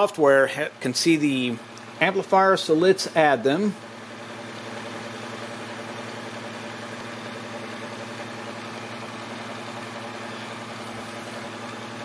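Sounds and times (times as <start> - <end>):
cooling fans whirring: 0.0 - 12.0
low electrical hum: 0.0 - 12.0.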